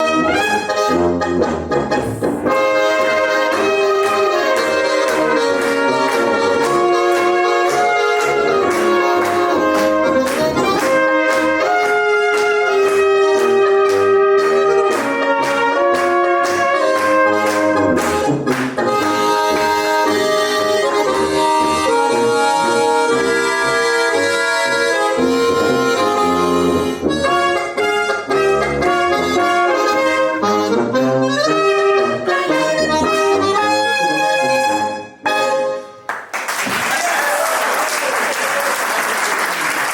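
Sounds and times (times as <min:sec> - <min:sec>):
small brass ensemble playing: 0:00.0 - 0:36.2.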